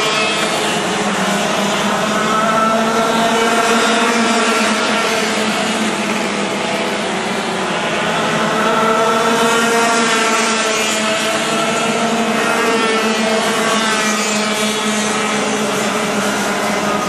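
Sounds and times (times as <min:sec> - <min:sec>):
kart engines racing: 0:00.0 - 0:17.0.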